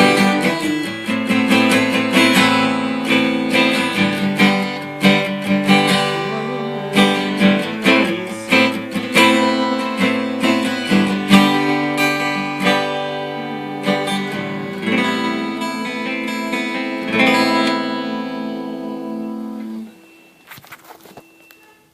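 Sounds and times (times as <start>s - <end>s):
acoustic guitar strumming chords: 0.0s - 21.8s.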